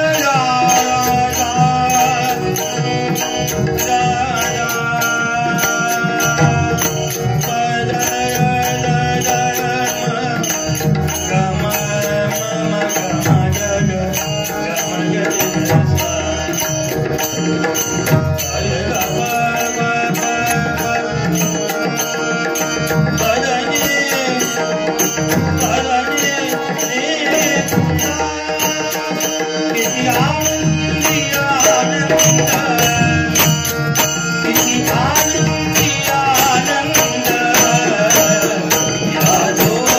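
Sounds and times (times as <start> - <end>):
man singing devotional song: 0.0 - 39.9
metallic jingling beat: 0.0 - 39.9.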